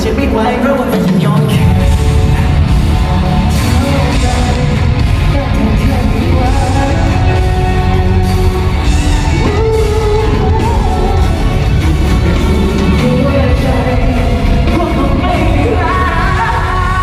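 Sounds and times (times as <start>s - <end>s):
live rock band music: 0.0s - 17.0s.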